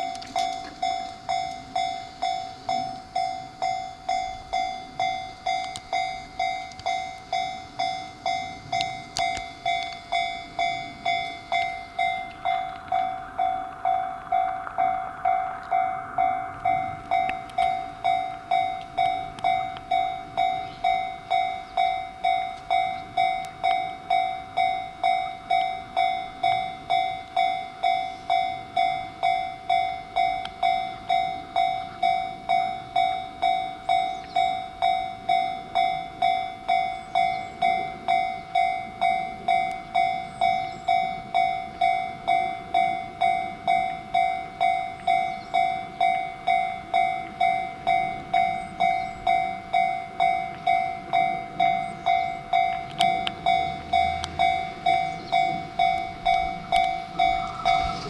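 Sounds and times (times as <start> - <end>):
level crossing warning bell: 0.0 - 58.0.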